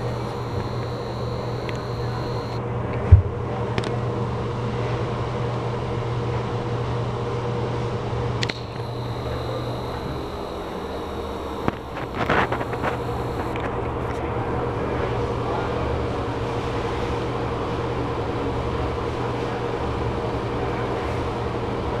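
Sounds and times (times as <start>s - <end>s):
exhaust fan motor hum: 0.0s - 2.6s, 4.8s - 22.0s.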